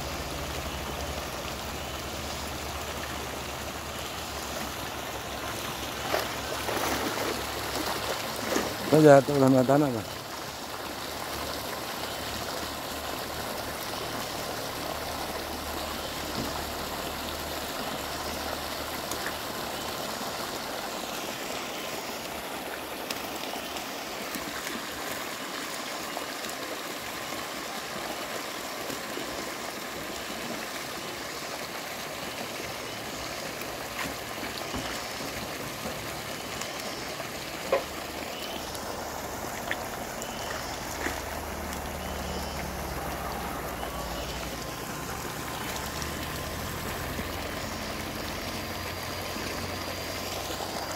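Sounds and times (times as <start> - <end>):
water running through pond: 0.0 - 50.9
small splashes from wading: 0.3 - 50.9.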